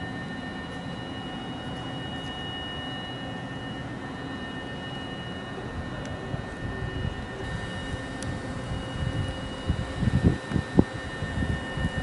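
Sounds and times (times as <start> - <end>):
high-pitched electrical whine: 0.0 - 12.0.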